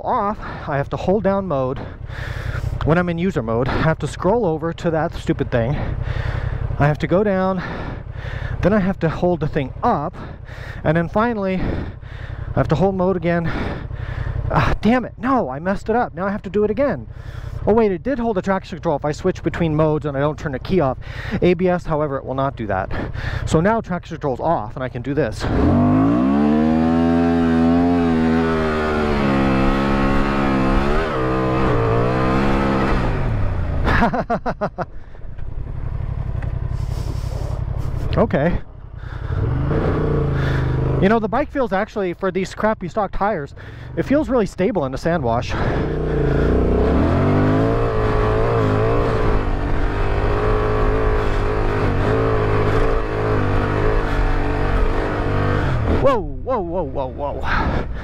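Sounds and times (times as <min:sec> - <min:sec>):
motorcycle engine revving: 0:00.0 - 0:42.2, 0:43.5 - 0:58.0.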